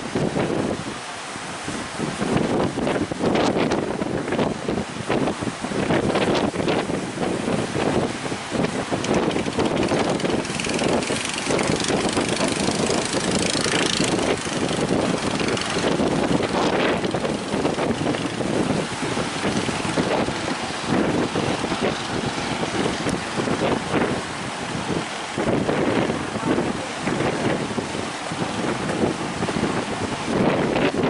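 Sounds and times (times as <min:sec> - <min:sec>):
heavy surf rushing: 0:00.0 - 0:31.0
wind buffeting microphone: 0:00.0 - 0:31.0.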